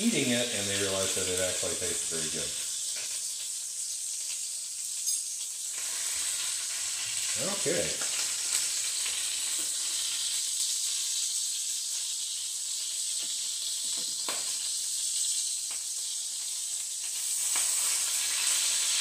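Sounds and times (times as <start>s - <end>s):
meat sizzling in a skillet: 0.0s - 19.0s.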